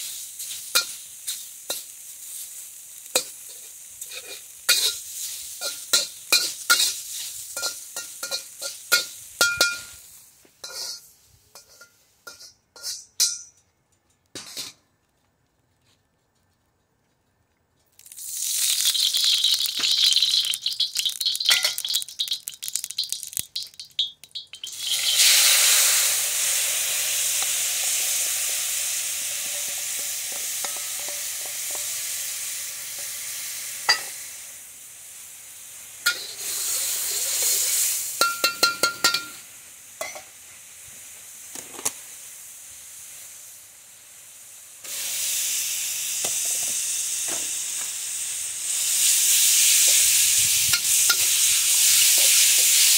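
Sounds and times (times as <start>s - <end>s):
hot wok sizzling: 0.0s - 13.5s, 18.0s - 52.9s.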